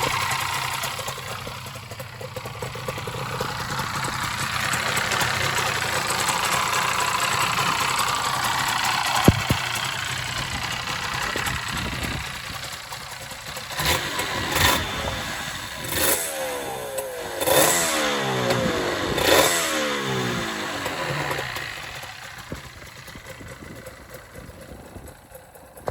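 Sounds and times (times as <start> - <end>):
two-stroke engine revving: 0.0 - 25.1.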